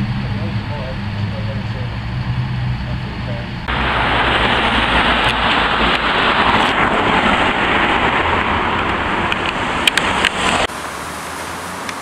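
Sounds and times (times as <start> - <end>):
car driving by: 0.0 - 12.0.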